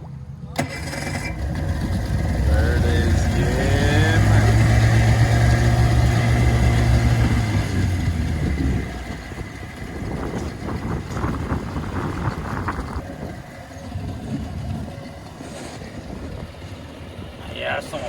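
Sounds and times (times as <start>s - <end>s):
engine idling hum: 0.0s - 18.0s.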